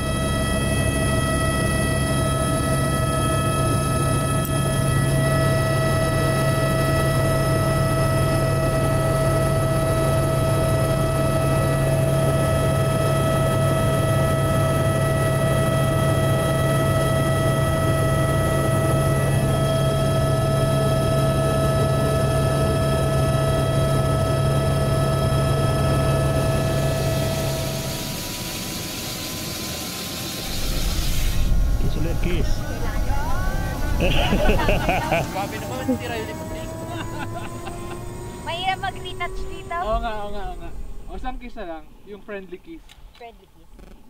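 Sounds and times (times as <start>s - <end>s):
helicopter cabin drone: 0.0s - 42.6s
constant high whine: 0.0s - 44.0s.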